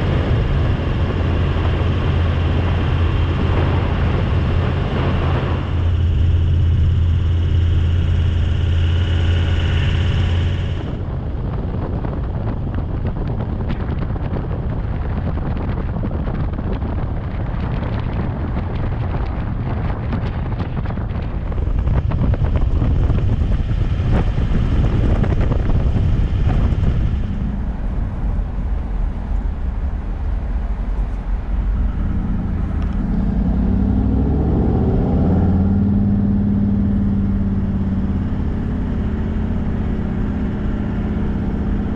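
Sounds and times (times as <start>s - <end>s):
road noise: 0.0s - 41.9s
vehicle engine hum: 0.0s - 41.9s.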